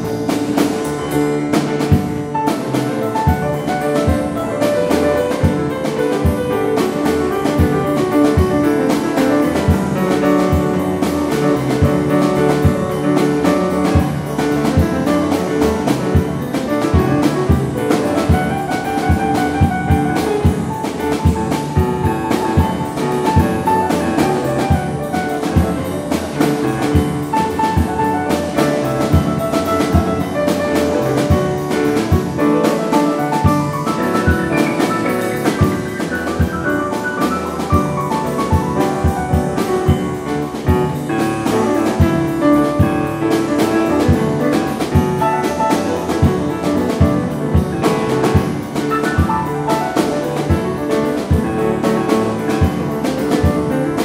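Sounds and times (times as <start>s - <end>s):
drum kit beat: 0.0s - 54.0s
piano: 0.0s - 54.0s.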